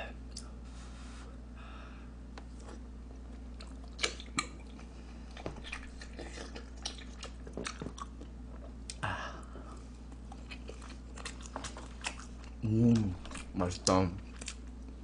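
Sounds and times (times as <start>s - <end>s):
person chewing rice cakes: 2.4s - 15.0s.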